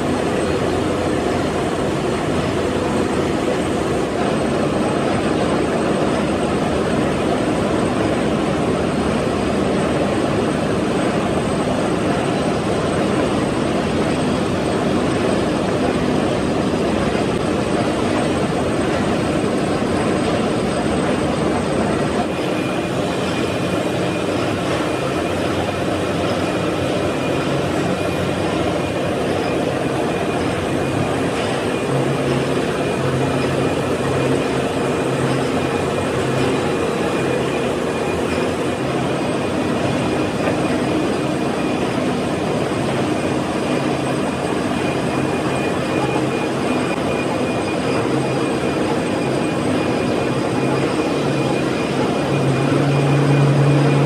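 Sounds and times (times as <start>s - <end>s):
gear cutting machine droning: 0.0s - 54.0s.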